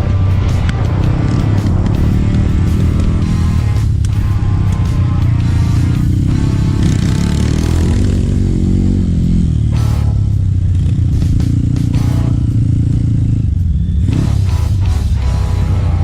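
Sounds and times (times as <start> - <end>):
background music: 0.0 - 16.0
motorcycle engine revving: 0.0 - 16.0.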